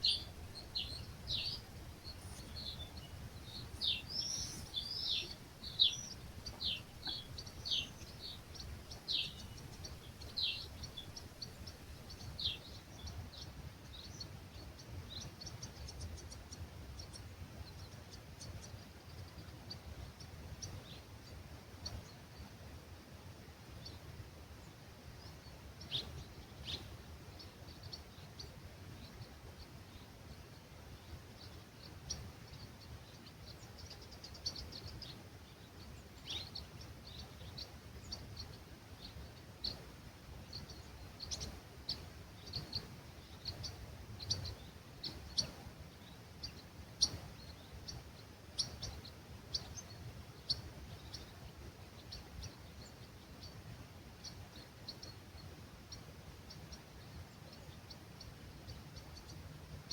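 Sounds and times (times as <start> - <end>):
low rumble of breeze: 0.0 - 59.9
small birds chirping: 0.0 - 59.9.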